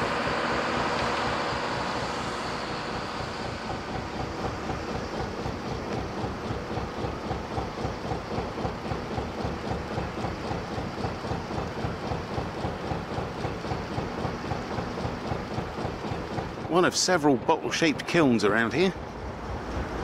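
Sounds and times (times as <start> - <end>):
diesel boat engine running: 0.0 - 20.0.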